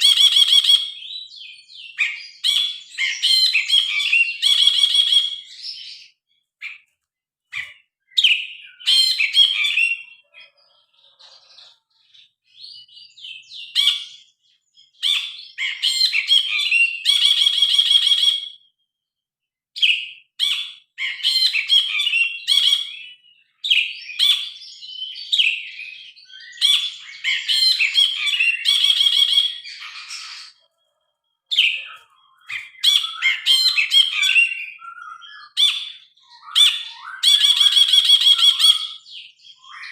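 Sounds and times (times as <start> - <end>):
bird singing chirps and whistles: 0.0 - 6.8, 7.5 - 10.5, 11.2 - 18.8, 19.8 - 39.9.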